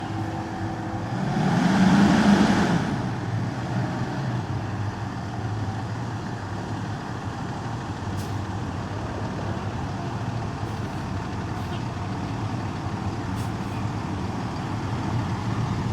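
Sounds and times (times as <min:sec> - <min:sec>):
diesel engine humming: 0:00.0 - 0:15.9.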